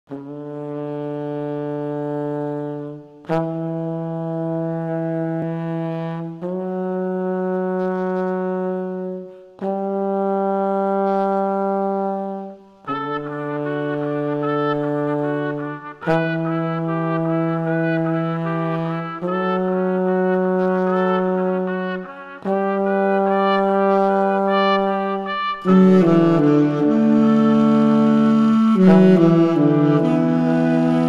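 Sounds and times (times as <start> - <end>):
higher horn melody line: 0.1 - 31.0
horn section playing held chords: 0.1 - 31.0.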